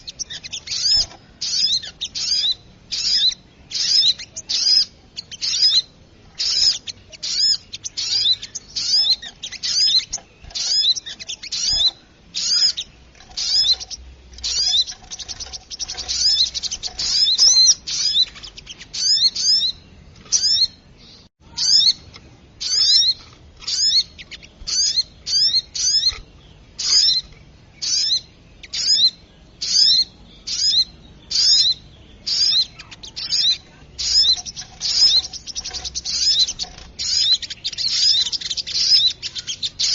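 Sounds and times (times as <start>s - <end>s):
high-pitched bird chirps: 0.0s - 39.9s.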